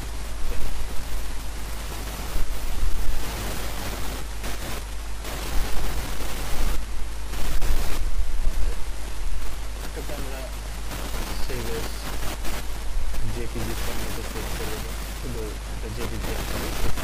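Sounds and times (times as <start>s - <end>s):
crackling hiss: 0.0s - 17.0s
low steady hum: 0.0s - 17.0s.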